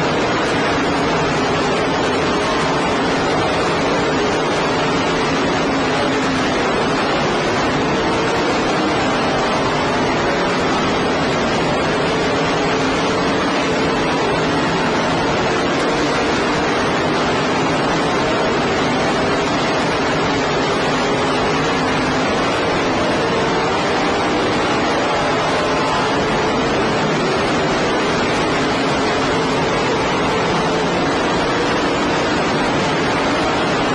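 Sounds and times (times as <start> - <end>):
race car engines: 0.0 - 33.9.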